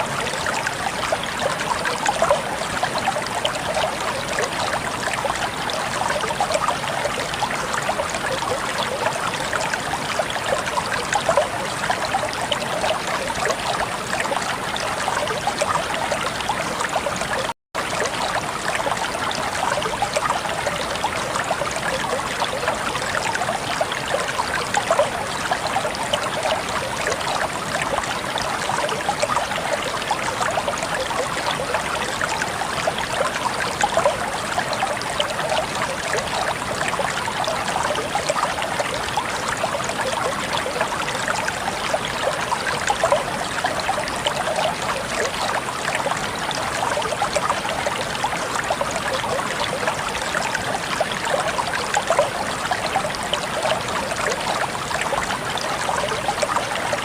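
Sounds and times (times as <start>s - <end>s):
water splashing and trickling: 0.0s - 57.0s.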